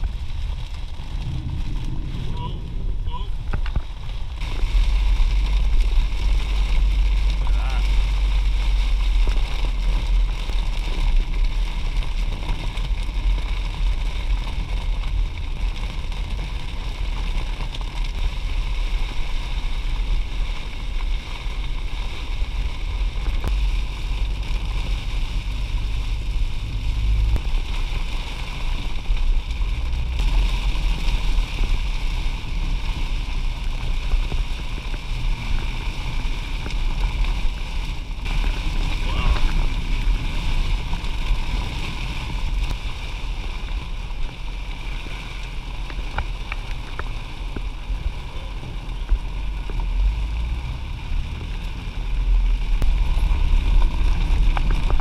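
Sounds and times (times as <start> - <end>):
hiss of rain and water: 0.0 - 55.0
vehicle rumble: 0.0 - 55.0.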